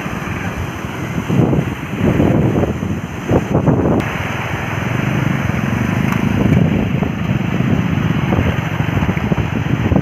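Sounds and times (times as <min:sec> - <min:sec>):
river water rushing over rocks: 0:00.0 - 0:10.0
wind buffeting microphone: 0:00.0 - 0:10.0.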